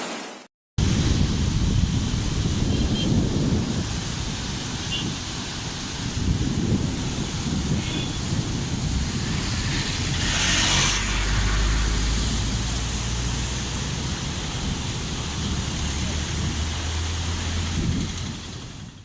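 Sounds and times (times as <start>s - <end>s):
floodwater rushing: 0.0s - 19.0s
wind buffeting microphone: 0.8s - 19.0s.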